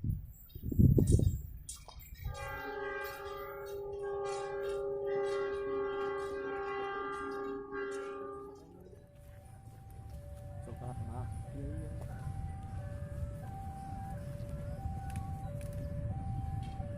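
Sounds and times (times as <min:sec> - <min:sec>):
locomotive air horn chord: 0:02.3 - 0:16.2.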